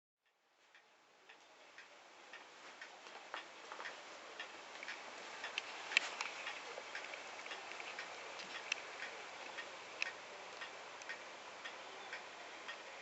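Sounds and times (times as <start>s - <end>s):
steady hiss: 0.3s - 13.0s
light ticking clicks: 0.7s - 13.0s.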